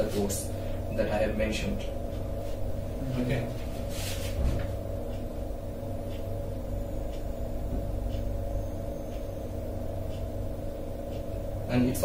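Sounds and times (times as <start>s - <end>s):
held low tones: 0.0s - 12.0s
room hum: 0.0s - 12.0s.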